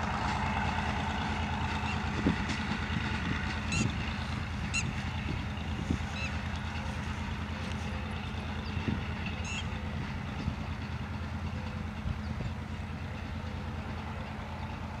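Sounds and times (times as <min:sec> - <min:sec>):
distant locomotive engine rumbling: 0:00.0 - 0:15.0.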